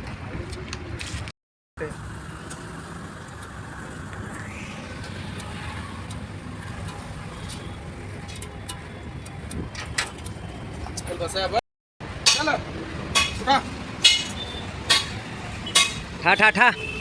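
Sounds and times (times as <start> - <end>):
vehicle rumble: 0.0 - 16.3.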